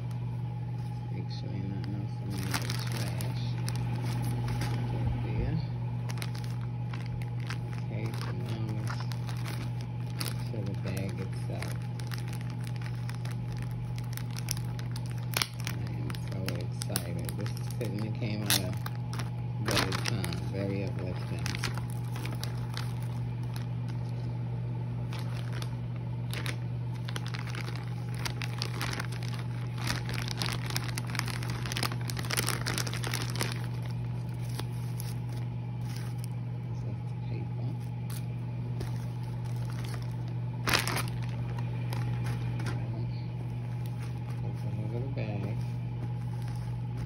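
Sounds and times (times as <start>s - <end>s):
plastic wrapping crinkling: 0.0s - 24.4s, 25.0s - 36.6s, 37.7s - 47.0s
steady low hum: 0.0s - 47.0s.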